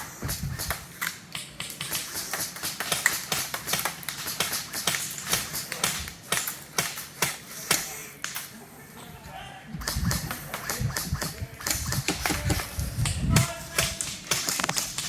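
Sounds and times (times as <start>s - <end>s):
airsoft guns firing: 0.3s - 8.4s, 9.8s - 15.0s.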